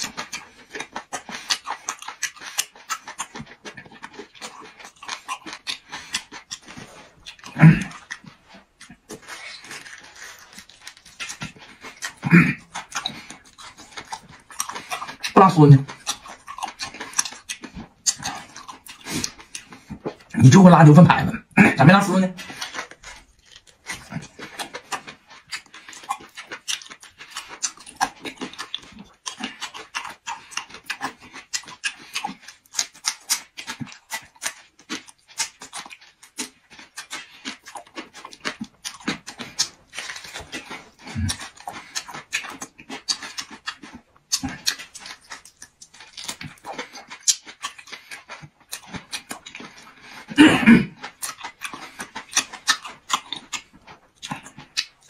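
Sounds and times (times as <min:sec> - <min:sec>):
wet chewing smacks and squelches: 0:00.0 - 0:55.0.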